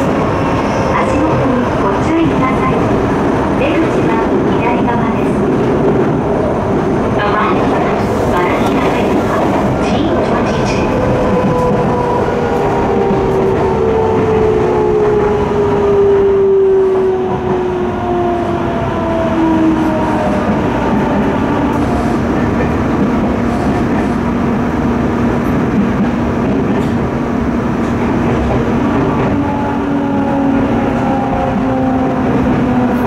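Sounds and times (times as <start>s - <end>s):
rumble of wheels on rail: 0.0s - 33.0s.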